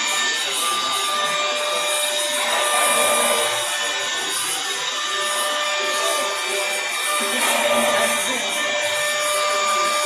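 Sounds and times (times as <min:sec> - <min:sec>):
router spindle whine: 0:00.0 - 0:10.0.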